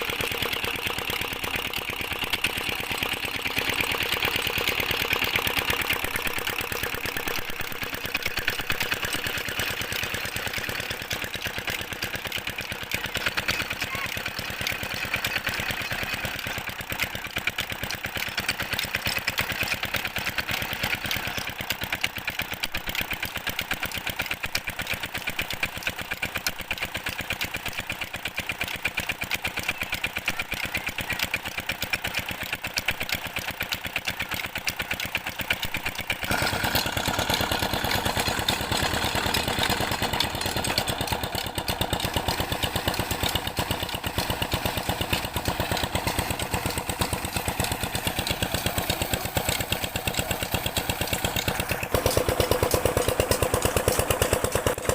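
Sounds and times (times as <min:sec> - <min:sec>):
diesel water pump engine running: 0:00.0 - 0:54.9.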